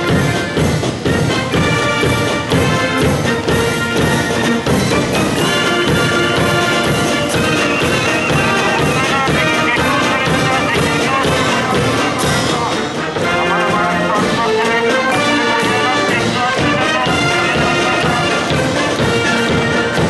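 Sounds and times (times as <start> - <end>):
marching wind band playing: 0.0 - 20.0
snare drums: 0.0 - 20.0.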